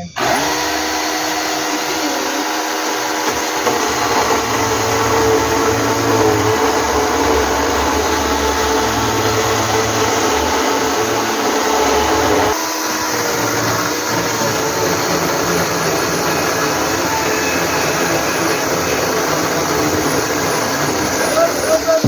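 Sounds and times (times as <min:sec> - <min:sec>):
electric chainsaw cutting wood: 0:00.0 - 0:22.0.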